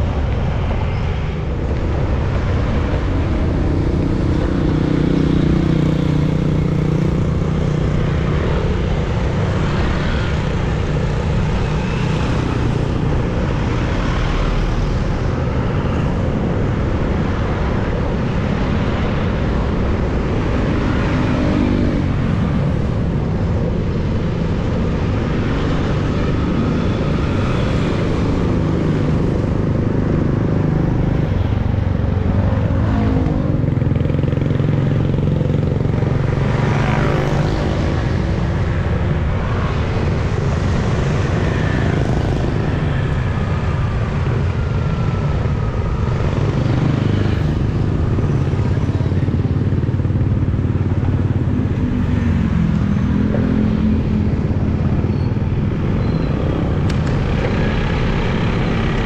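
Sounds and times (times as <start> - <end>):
passing cars and motorcycles: 0.0 - 59.0.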